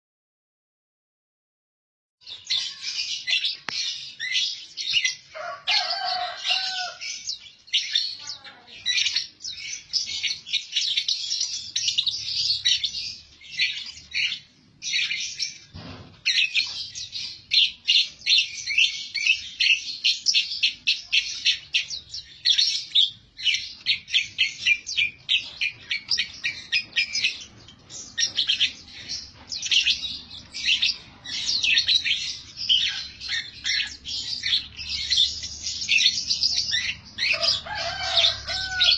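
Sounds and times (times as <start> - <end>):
lovebirds chirping: 2.2 - 38.9.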